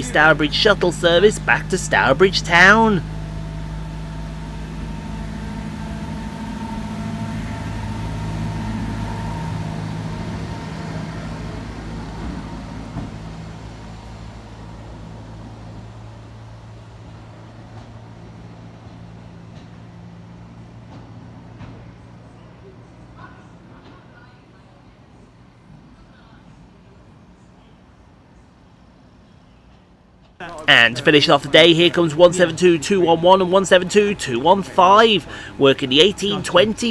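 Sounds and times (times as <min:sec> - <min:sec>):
railcar engine hum: 0:00.0 - 0:36.9.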